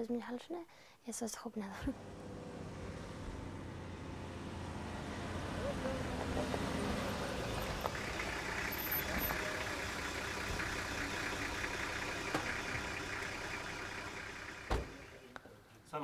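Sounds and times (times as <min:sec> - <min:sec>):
vehicle engine running: 0:01.8 - 0:15.4.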